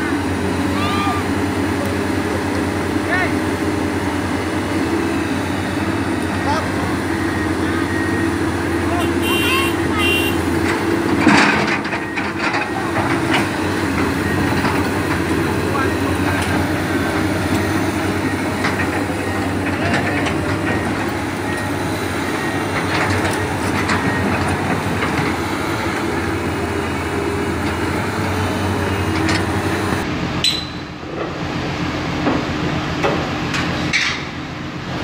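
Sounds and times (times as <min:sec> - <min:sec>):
excavator diesel engines running: 0:00.0 - 0:35.0.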